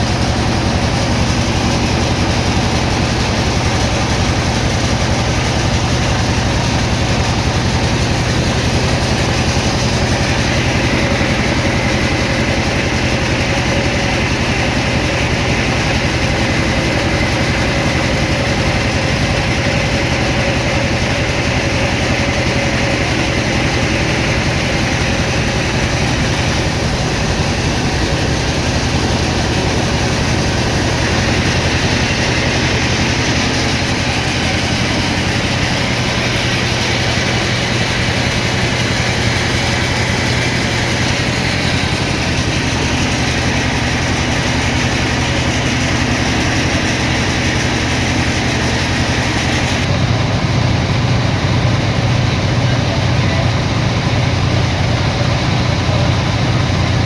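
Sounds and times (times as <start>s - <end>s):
sawmill motor drone: 0.0s - 57.0s.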